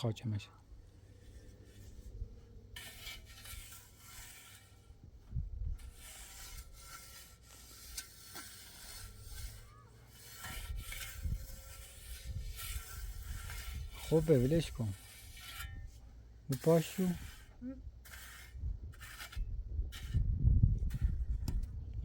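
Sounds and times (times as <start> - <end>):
hands scraping soil: 0.9 - 21.7.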